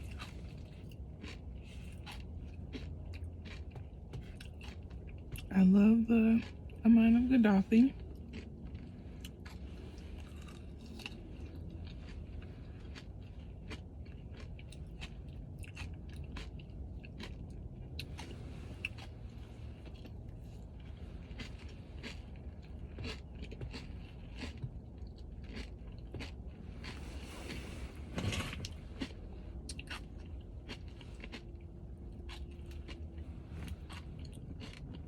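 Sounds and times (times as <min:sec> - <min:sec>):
person chewing crunchy food: 0:00.0 - 0:05.5, 0:07.9 - 0:35.0
steady low hum: 0:00.0 - 0:35.0.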